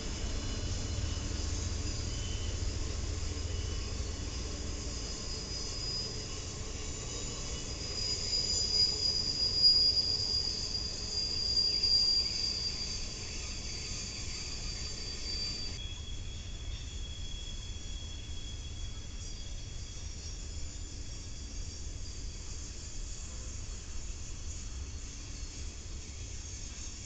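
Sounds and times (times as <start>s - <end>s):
train wheels squealing: 0.0s - 27.0s
wheels rumbling on rail: 0.0s - 27.0s.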